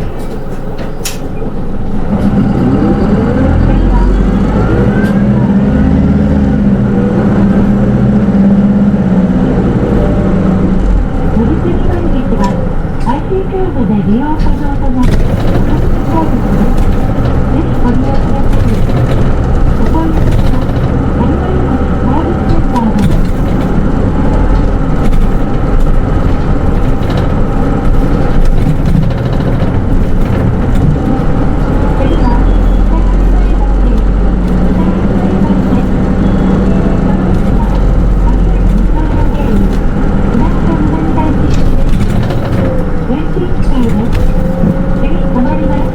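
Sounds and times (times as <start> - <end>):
bus diesel engine running: 0.0 - 45.9
road and cabin noise: 0.0 - 45.9.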